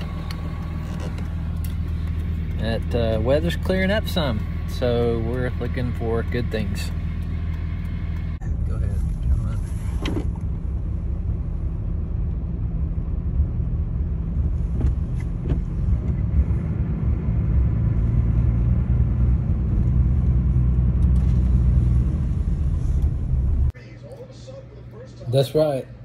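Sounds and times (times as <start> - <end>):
truck rumbling from inside cab: 0.0 - 26.0.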